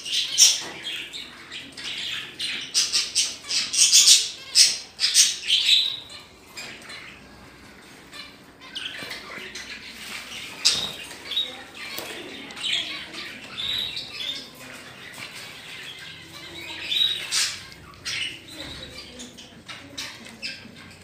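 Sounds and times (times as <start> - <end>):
budgerigars chirping: 0.0 - 21.0.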